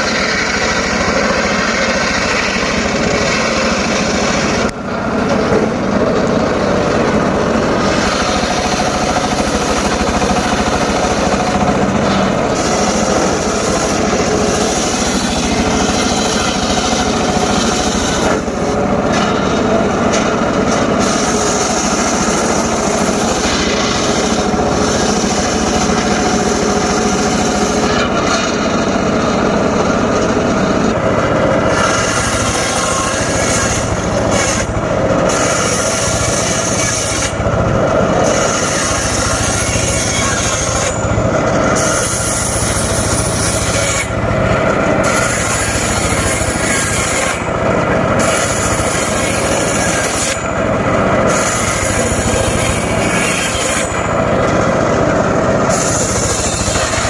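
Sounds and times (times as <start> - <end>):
circular saw cutting wood: 0.0 - 57.0.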